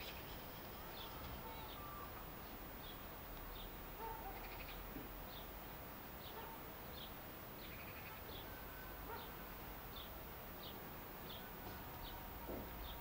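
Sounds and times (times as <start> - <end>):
bird chirping faintly: 0.0 - 13.0
steady low hiss: 0.0 - 13.0.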